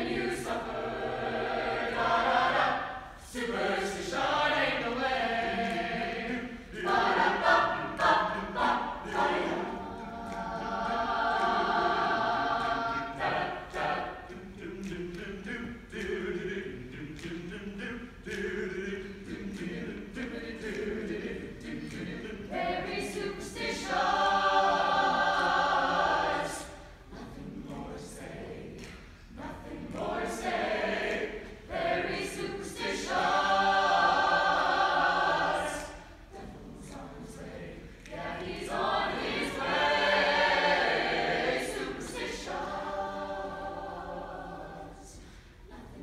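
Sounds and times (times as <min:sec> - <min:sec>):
choir of young voices singing: 0:00.0 - 0:46.0.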